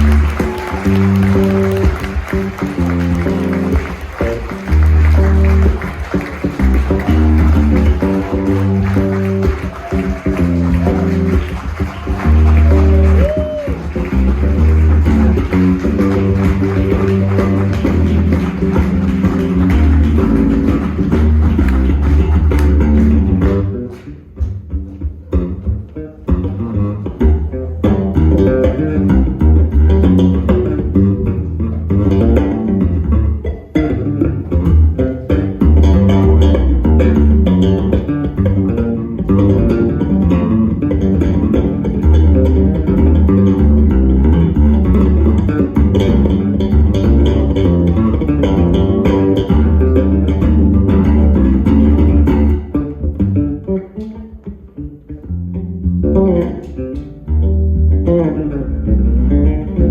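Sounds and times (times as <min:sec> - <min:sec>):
electric bass guitar solo: 0:00.0 - 0:59.9.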